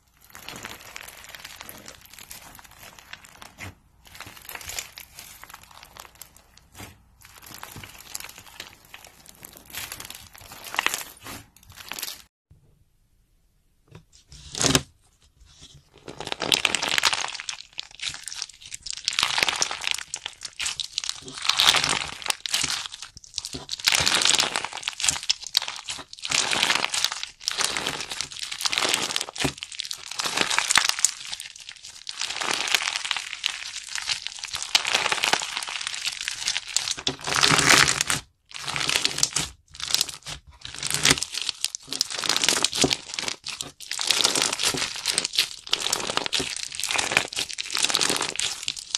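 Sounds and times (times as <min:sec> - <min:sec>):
crunchy slime crackling: 0:00.0 - 0:12.3, 0:15.9 - 0:48.9.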